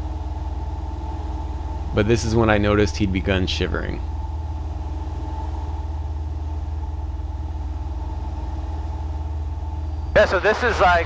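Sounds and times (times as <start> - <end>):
airplane engine droning in cabin: 0.0 - 11.0.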